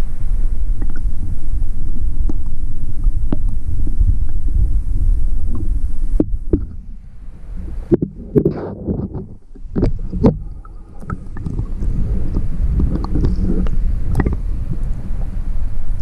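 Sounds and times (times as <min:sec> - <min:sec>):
underwater stream rumble: 0:00.0 - 0:16.0.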